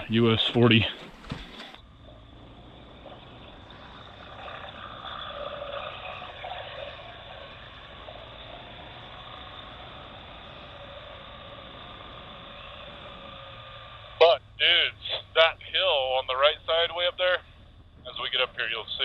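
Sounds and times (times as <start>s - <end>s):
motorcycle engine riding along: 0.0s - 19.0s.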